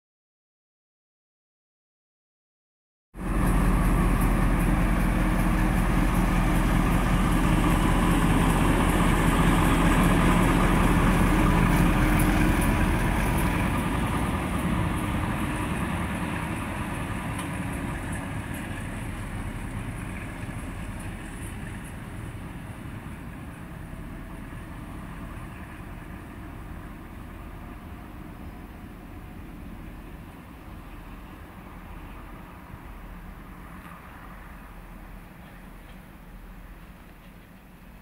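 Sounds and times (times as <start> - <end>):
diesel locomotive engine running: 3.2 - 38.0.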